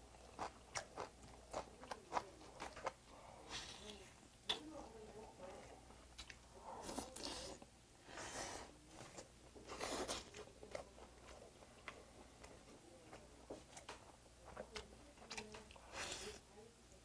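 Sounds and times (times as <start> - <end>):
man chewing food: 0.0 - 16.4.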